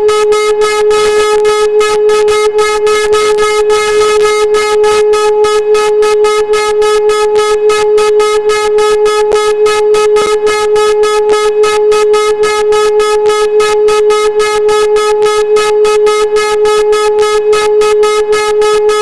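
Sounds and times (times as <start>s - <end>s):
civil defence siren steady tone: 0.0s - 19.0s.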